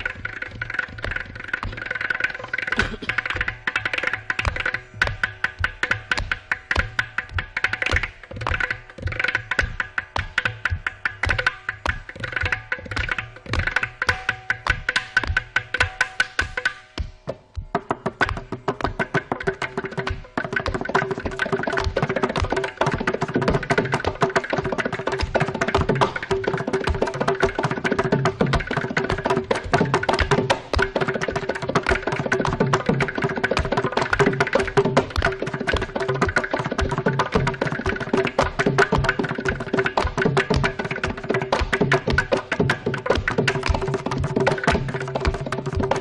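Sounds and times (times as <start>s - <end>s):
fast hand percussion strokes: 0.0s - 46.0s
mridangam drumming: 0.0s - 46.0s.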